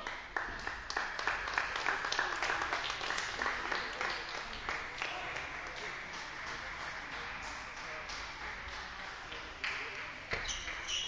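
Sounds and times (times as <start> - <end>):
murmur of voices: 1.9 - 11.0.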